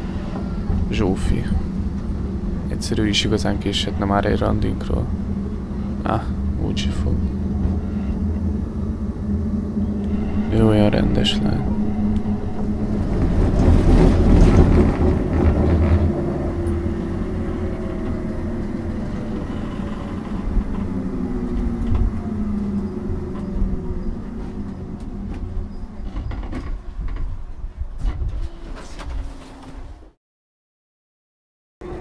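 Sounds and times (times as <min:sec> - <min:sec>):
tram motor whine: 0:00.0 - 0:27.7
electric tram rumbling on rails: 0:00.0 - 0:30.2.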